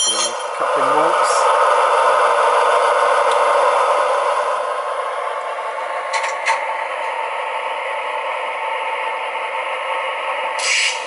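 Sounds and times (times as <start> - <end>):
model diesel engine sound: 0.0 - 11.0.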